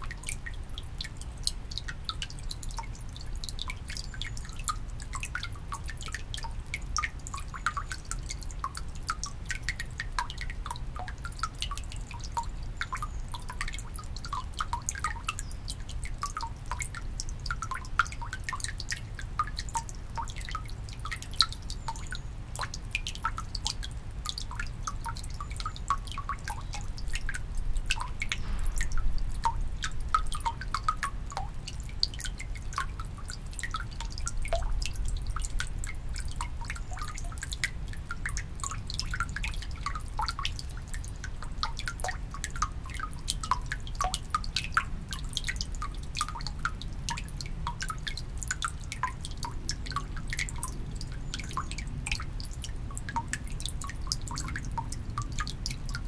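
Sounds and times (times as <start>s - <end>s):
low steady rumble: 0.0s - 56.0s
water dripping into stone basin: 0.0s - 56.0s.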